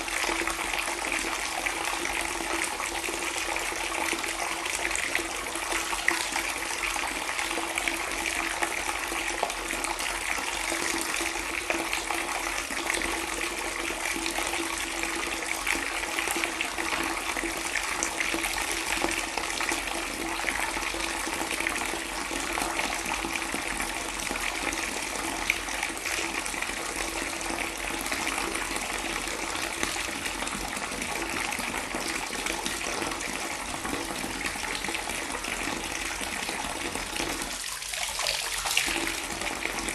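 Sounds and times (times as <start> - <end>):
water pouring: 0.0 - 39.9.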